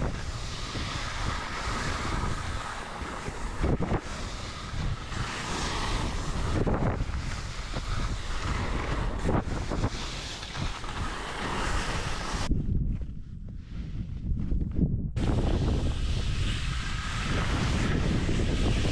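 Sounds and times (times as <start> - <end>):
skis sliding over snow: 0.0 - 13.0, 15.2 - 18.9
wind buffeting microphone: 0.0 - 18.9.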